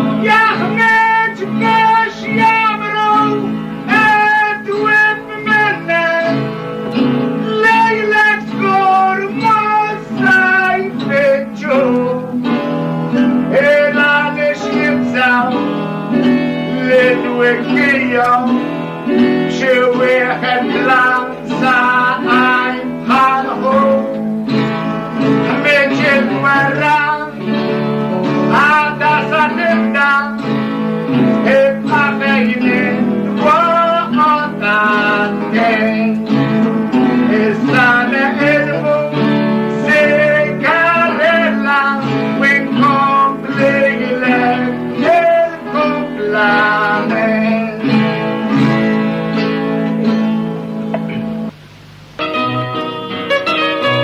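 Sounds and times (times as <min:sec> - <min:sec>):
plucked acoustic guitars: 0:00.0 - 0:51.6, 0:52.2 - 0:54.0.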